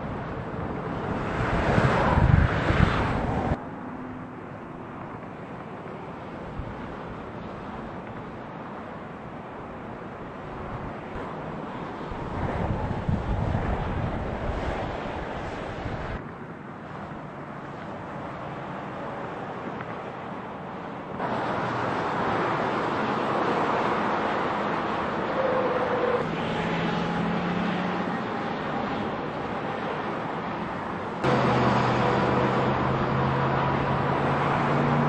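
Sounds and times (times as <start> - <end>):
rush of wind: 0.0 - 35.0
vehicle noise: 0.0 - 35.0.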